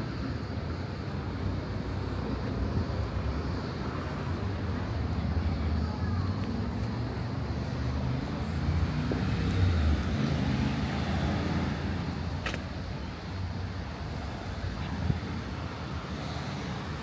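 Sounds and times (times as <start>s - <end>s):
vehicle passing rumble: 0.0s - 17.0s.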